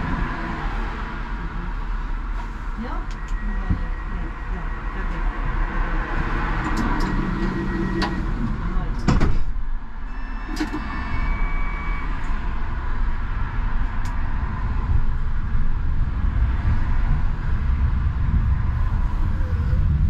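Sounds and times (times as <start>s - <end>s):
tram motors and wheels rumbling: 0.0s - 20.0s.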